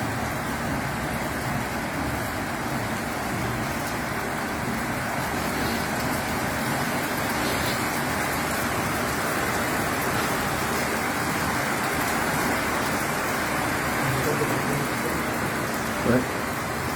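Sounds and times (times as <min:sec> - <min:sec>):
steady rain: 0:00.0 - 0:16.9.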